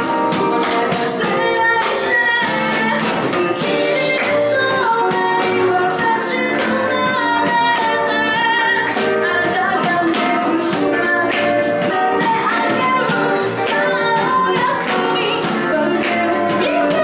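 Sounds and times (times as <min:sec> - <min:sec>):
drums with cymbals: 0:00.0 - 0:17.0
live band music: 0:00.0 - 0:17.0
woman singing into microphone: 0:00.0 - 0:17.0.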